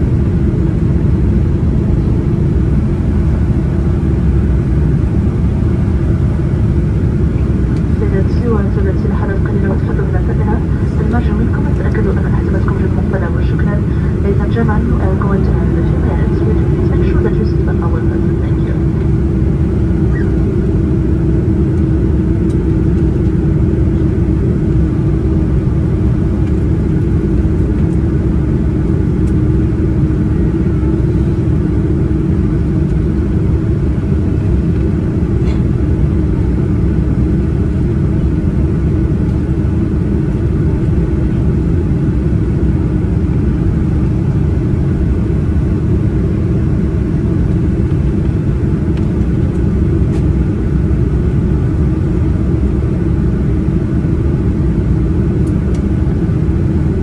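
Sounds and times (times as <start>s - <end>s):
airliner cabin rumble: 0.0s - 57.0s
low hum: 0.0s - 57.0s.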